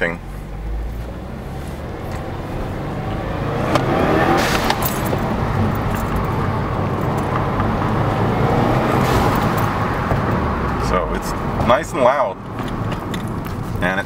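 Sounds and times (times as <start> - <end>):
car engine starting and running: 0.0 - 14.0.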